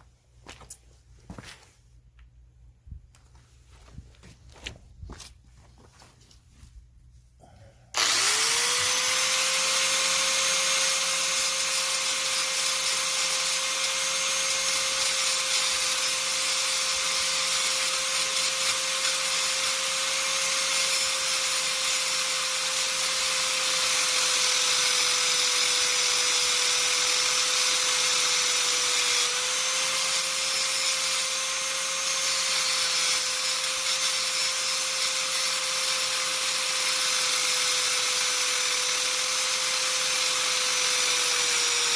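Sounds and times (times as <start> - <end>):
electric power tool grinding: 7.9 - 41.9.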